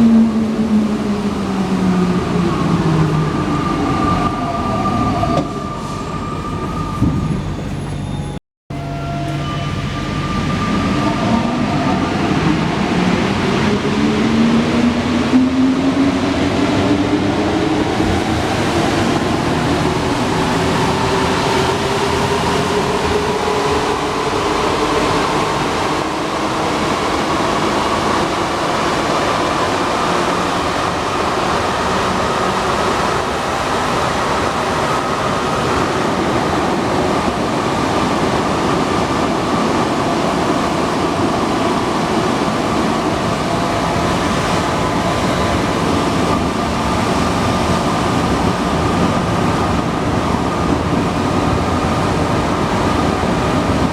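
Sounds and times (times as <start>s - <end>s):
metro train running with whine: 0.0s - 53.9s.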